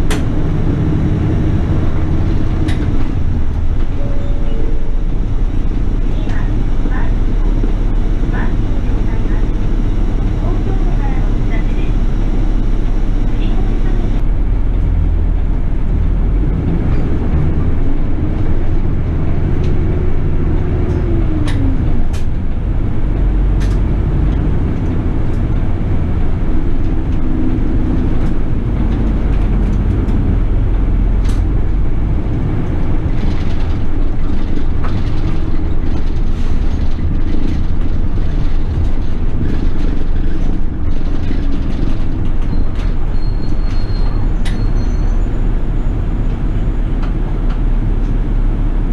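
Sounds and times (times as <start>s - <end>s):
bus engine and road rumble: 0.0s - 48.9s.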